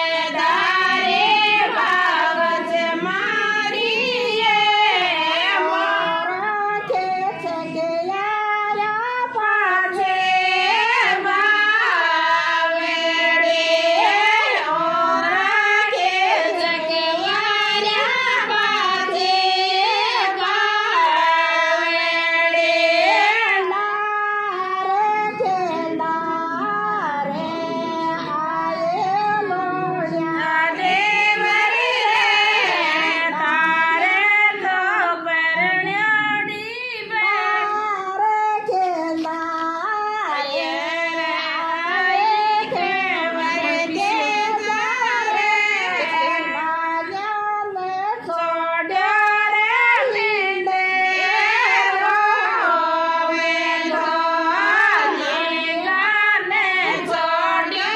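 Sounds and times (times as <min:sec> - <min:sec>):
women singing a devotional song: 0:00.0 - 0:57.9.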